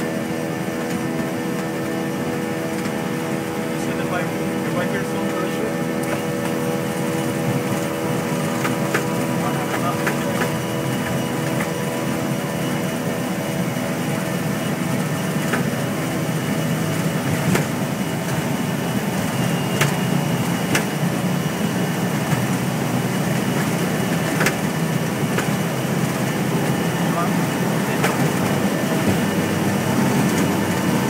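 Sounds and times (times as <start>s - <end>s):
engine hum and rushing noise: 0.0s - 31.0s.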